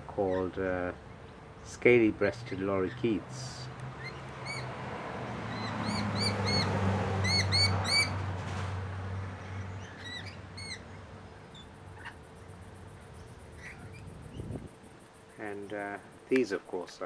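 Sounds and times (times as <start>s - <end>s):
small birds chirping: 0.0s - 8.2s, 9.2s - 17.0s.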